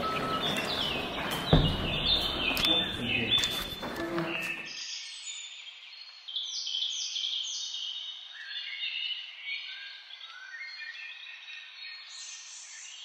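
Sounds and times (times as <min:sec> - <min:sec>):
birds chirping and singing: 0:00.0 - 0:13.0.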